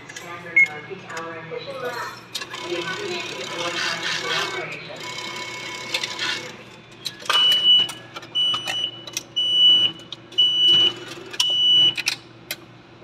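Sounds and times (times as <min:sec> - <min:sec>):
ticket machine beeping: 0:00.0 - 0:12.2.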